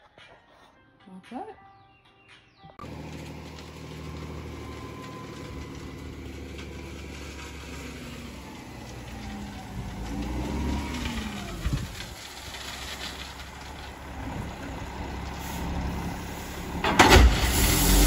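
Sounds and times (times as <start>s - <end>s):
diesel truck engine running: 2.8s - 18.0s.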